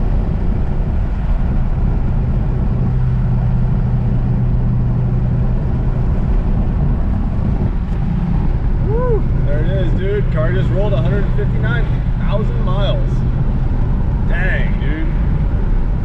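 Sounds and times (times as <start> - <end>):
car engine droning: 0.0 - 16.0
wind and road noise: 0.0 - 16.0.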